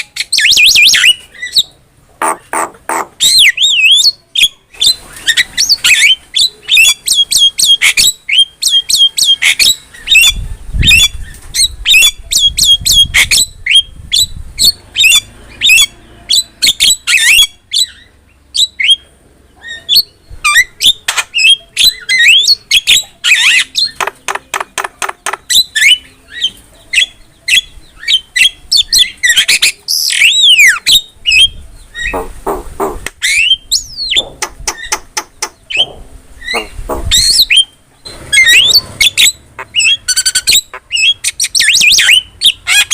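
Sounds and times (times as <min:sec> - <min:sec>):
bird singing squawks and whistles: 0:00.0 - 0:19.0, 0:19.6 - 0:42.9.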